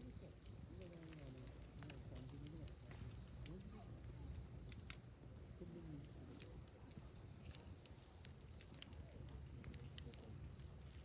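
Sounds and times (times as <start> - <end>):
small faint clicks: 0.0 - 11.0.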